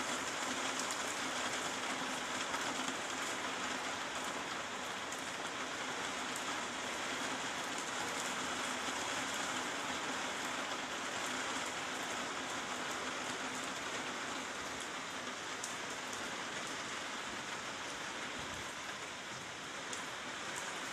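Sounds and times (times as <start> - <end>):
steady rain on trees and rooftops: 0.0 - 20.9.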